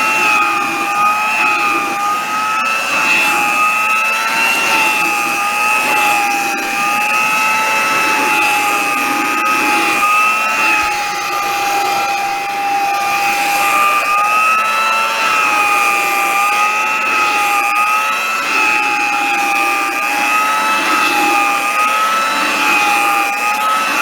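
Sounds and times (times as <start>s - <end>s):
hand vacuum cleaner whining: 0.0s - 24.0s.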